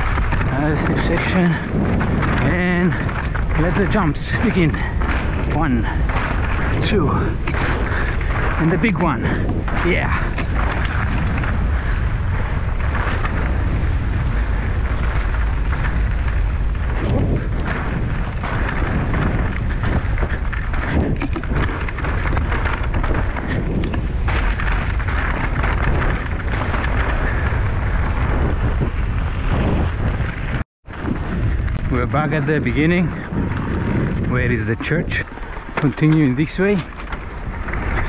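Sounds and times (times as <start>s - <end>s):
bike knocks and rattles: 0.0s - 38.0s
tyres rolling on gravel: 0.0s - 38.0s
wind buffeting microphone: 0.0s - 38.0s.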